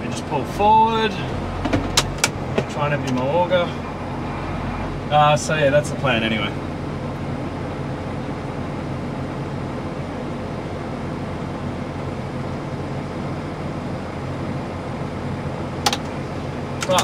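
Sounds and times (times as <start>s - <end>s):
tractor engine hum: 0.0s - 17.0s.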